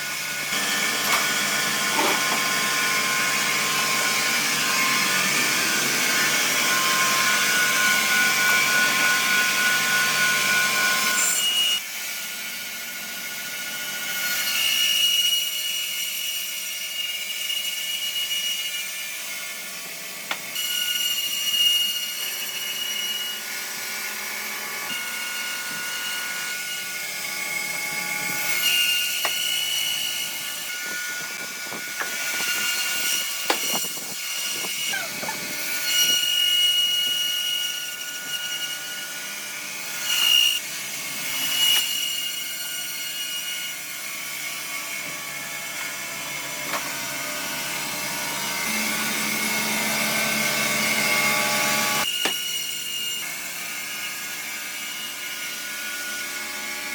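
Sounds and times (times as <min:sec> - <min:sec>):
power saw cutting wood: 0:00.0 - 0:56.9.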